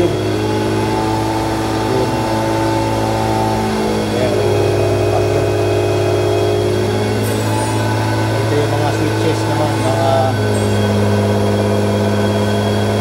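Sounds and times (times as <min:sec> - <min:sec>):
milking machine humming: 0:00.0 - 0:13.0.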